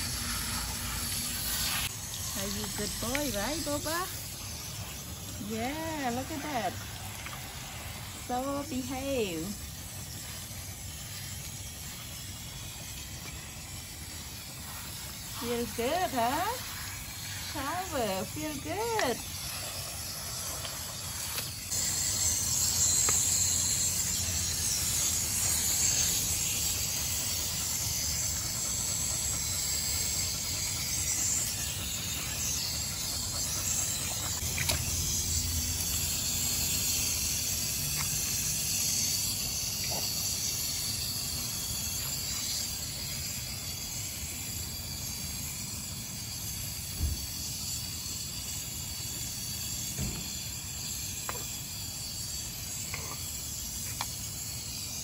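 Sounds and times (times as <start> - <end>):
hose nozzle spraying water: 0.0 - 55.0.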